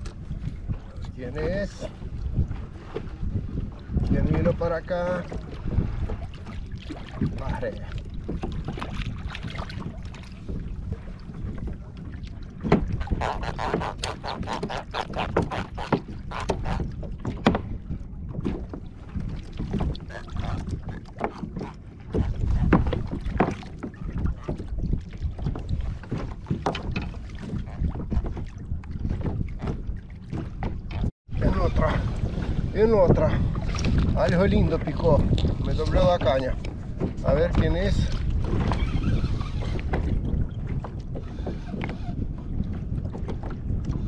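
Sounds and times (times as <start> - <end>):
knocks and splashes against hull: 0.0 - 44.0
water lapping at kayak: 0.0 - 44.0
wind rumbling on microphone: 0.0 - 44.0.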